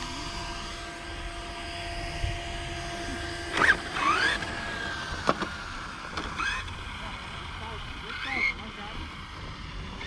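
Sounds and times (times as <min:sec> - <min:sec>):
electric motors whining: 0:00.0 - 0:10.0.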